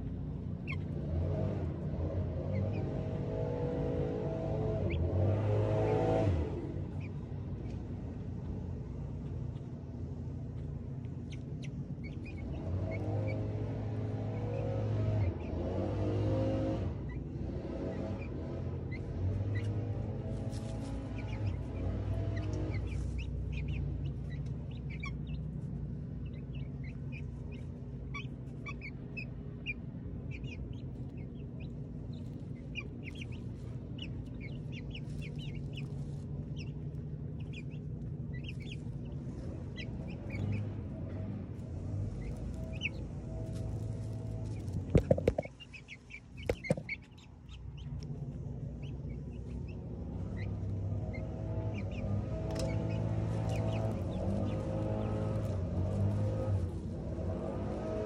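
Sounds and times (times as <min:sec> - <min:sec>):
steady low hum: 0:00.0 - 0:58.0
chicks chirping and clucking: 0:00.6 - 0:01.0, 0:11.2 - 0:58.0.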